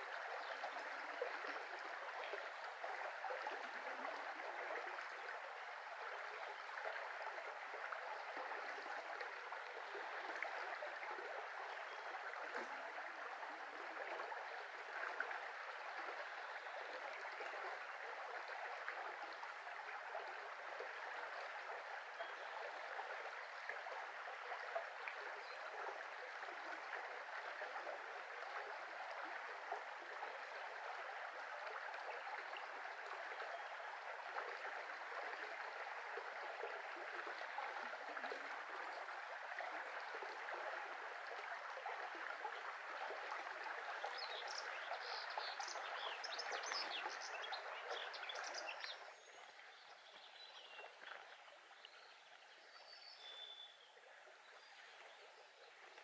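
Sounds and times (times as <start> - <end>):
brook babbling: 0.0 - 56.0.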